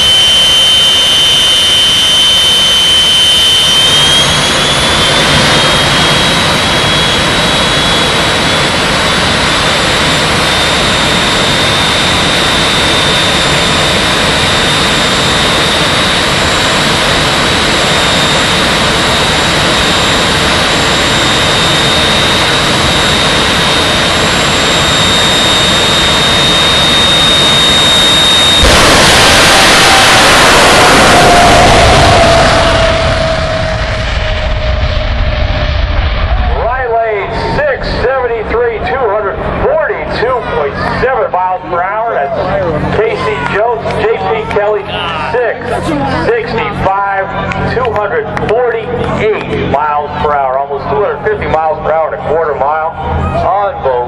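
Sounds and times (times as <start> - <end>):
afterburner roar: 0.0 - 54.0
turbine engine high whine: 0.0 - 54.0.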